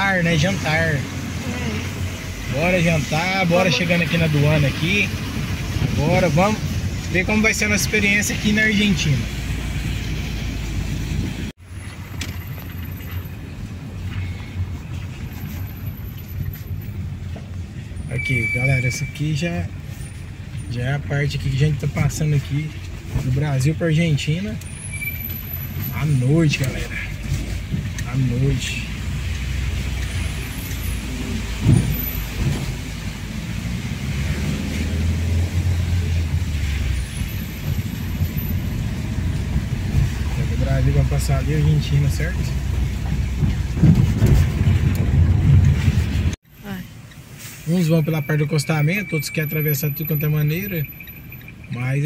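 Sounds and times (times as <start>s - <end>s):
car engine and tyres hum: 0.0s - 52.0s.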